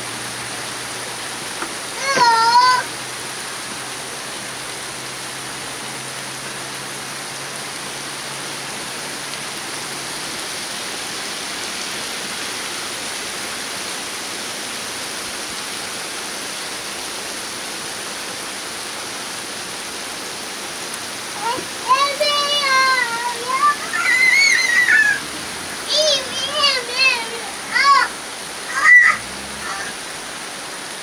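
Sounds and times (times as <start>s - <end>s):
heavy rain on pavement and cars: 0.0s - 31.0s.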